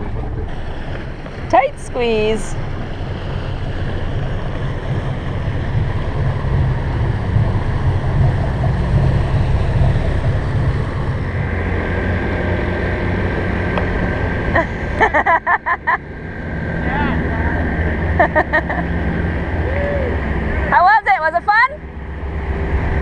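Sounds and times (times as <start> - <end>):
boat engines humming: 0.0 - 23.0.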